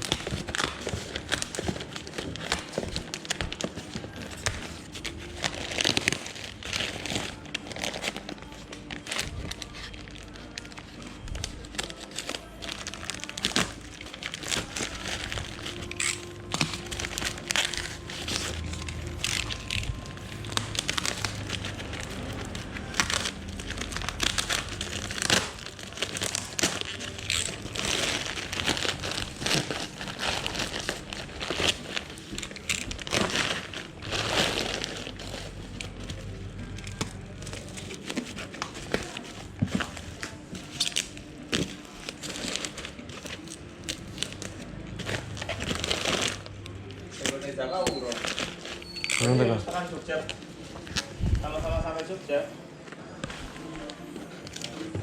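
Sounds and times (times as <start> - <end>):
packaging crinkling and rustling: 0.0 - 55.0.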